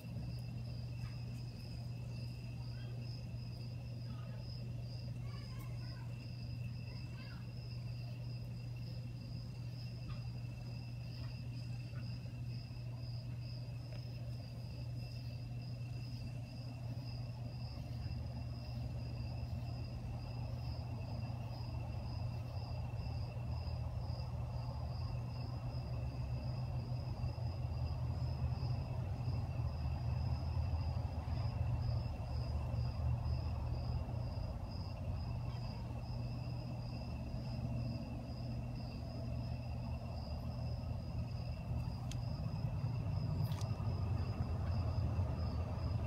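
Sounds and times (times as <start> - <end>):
night insects trilling: 0.0 - 46.0
steady low hum: 0.0 - 46.0.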